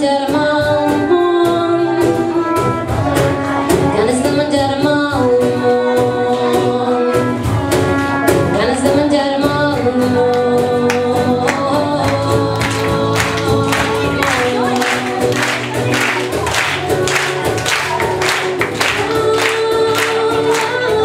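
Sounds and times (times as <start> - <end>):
girl singing: 0.0 - 2.7, 3.7 - 7.3, 8.6 - 21.0.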